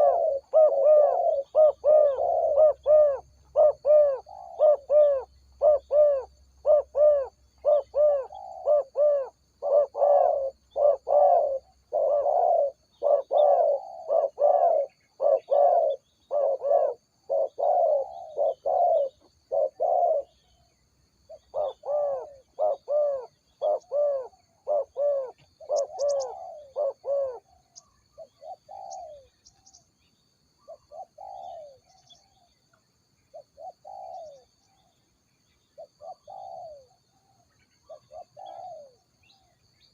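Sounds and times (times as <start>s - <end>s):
dove cooing: 0.0s - 20.6s, 21.2s - 29.8s, 30.6s - 32.5s, 33.3s - 34.9s, 35.8s - 39.6s.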